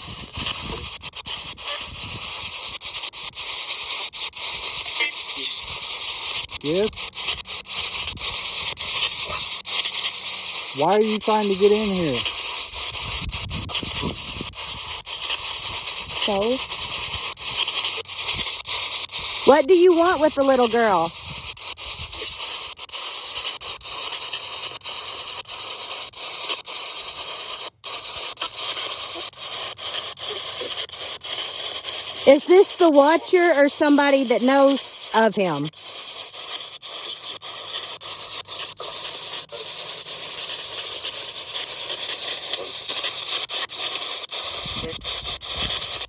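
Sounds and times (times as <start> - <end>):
chopped radio static hiss: 0.0 - 46.0.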